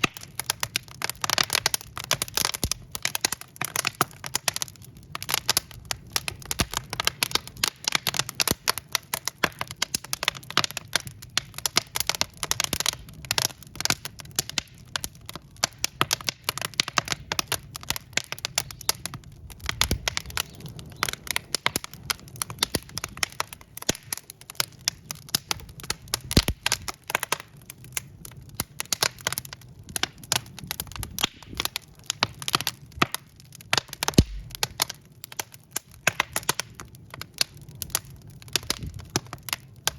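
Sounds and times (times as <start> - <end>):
low rumble of flame: 0.0 - 39.9
wood fire crackling: 0.0 - 39.9.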